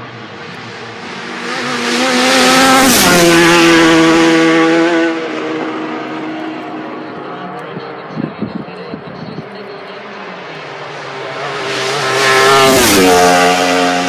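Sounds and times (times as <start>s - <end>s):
motorcycle passing at full throttle: 0.0s - 9.1s, 9.9s - 14.0s.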